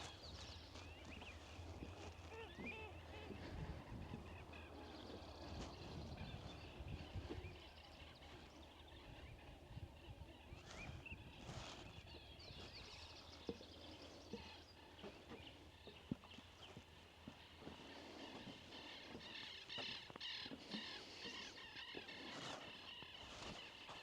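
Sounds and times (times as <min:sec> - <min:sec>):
distant birds chirping: 0:00.0 - 0:24.0.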